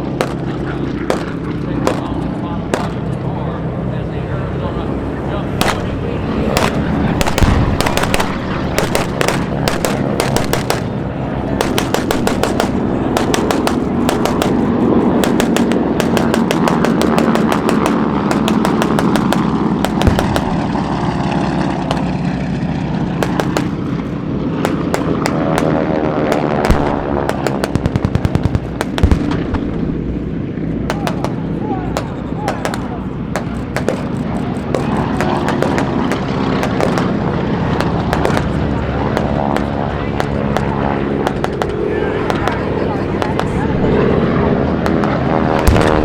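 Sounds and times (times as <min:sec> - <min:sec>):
simulated gunfire: 0:00.0 - 0:03.1, 0:05.6 - 0:20.9, 0:21.8 - 0:22.2, 0:23.1 - 0:29.8, 0:30.8 - 0:43.6, 0:44.8 - 0:46.0
propeller aircraft engines droning: 0:00.0 - 0:46.0.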